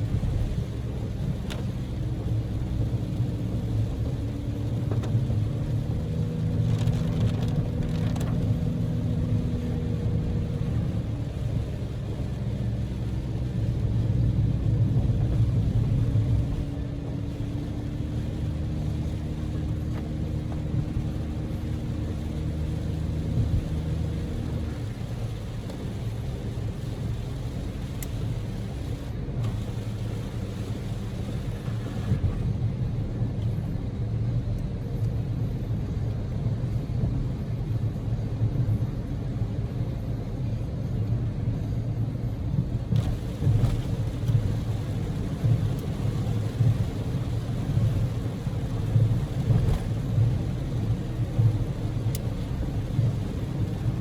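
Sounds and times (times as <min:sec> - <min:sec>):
tyre and road rumble: 0:00.0 - 0:34.0, 0:42.2 - 0:54.0
car engine droning: 0:00.0 - 0:54.0.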